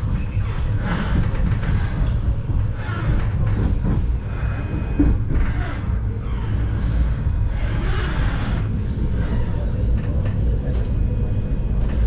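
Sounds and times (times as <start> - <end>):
tram low rumble: 0.0 - 12.0
wheel and track noise: 0.0 - 12.0.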